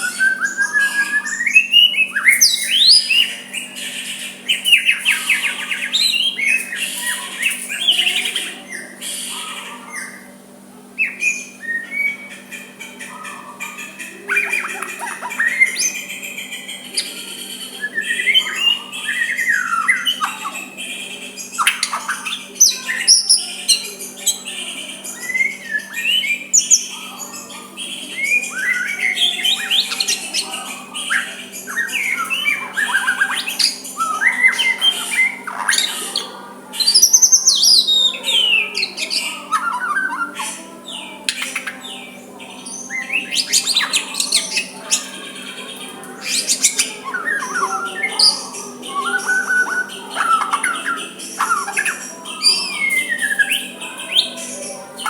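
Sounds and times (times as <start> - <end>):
bird singing whistles and chirps: 0.0 - 10.3, 11.0 - 13.2, 14.0 - 55.0.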